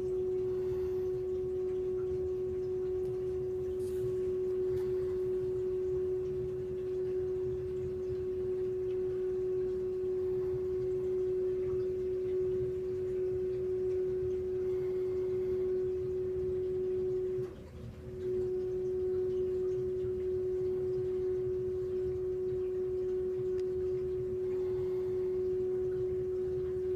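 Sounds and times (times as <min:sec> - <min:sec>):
heat pump humming: 0:00.0 - 0:26.9.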